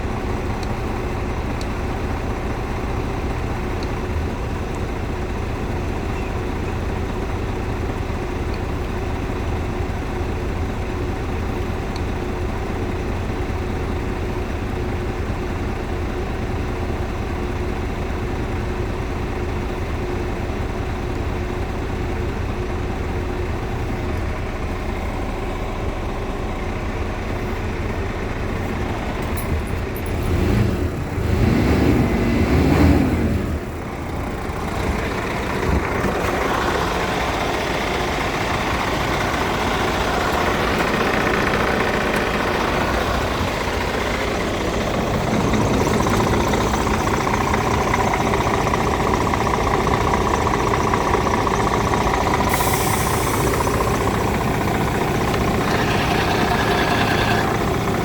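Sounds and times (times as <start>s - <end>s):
diesel truck idling: 0.0s - 58.0s.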